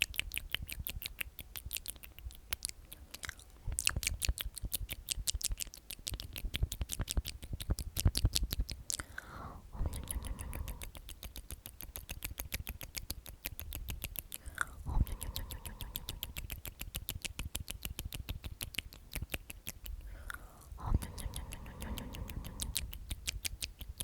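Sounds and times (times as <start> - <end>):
wet mouth clicks: 0.0 - 24.0.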